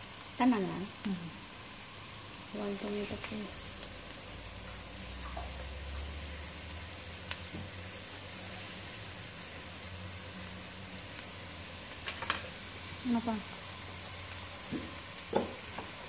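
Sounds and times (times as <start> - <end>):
oil sizzling in a pot: 0.0 - 16.0.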